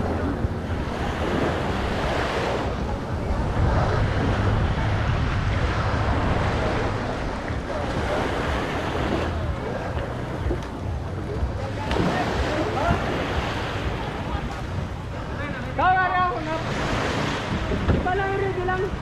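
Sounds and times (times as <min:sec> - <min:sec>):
waves washing on beach: 0:00.0 - 0:19.0
wind rumbling on microphone: 0:00.0 - 0:19.0.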